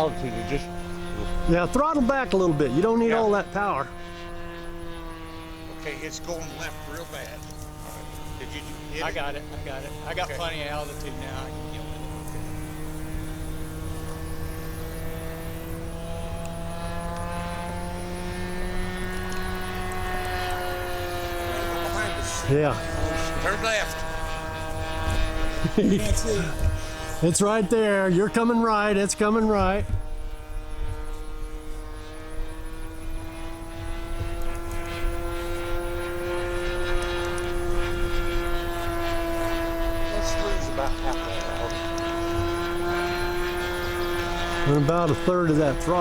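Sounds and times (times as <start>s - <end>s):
model plane engine droning: 0.0s - 46.0s.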